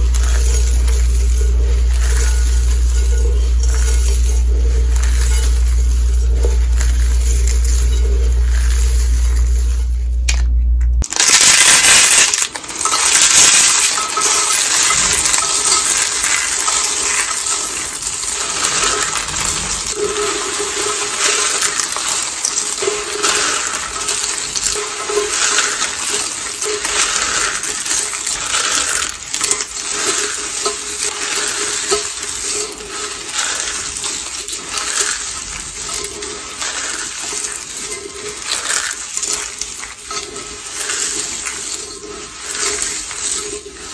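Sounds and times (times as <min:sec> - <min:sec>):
dried soap crunching: 0:00.0 - 0:43.9.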